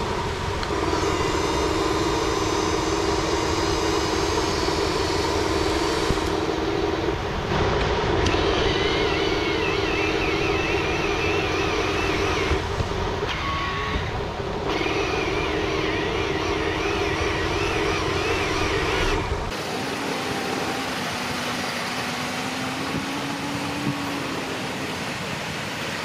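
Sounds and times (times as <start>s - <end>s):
toy truck motor whine: 0.0s - 7.4s, 8.2s - 25.2s
higher wavering whine: 0.0s - 26.0s.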